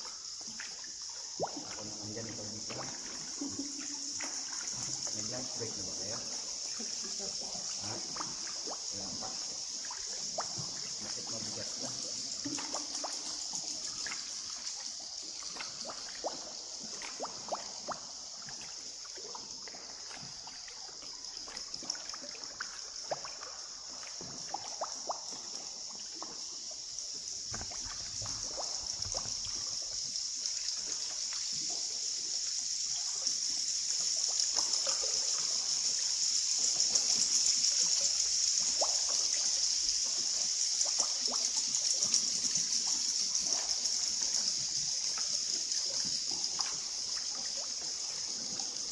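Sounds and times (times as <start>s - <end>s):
steady high-pitched hiss: 0.0s - 48.9s
water dripping: 0.0s - 48.9s.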